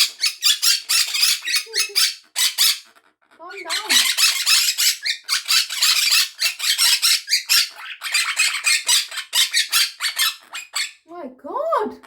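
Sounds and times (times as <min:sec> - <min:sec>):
parrot screeching squawks: 0:00.0 - 0:11.0.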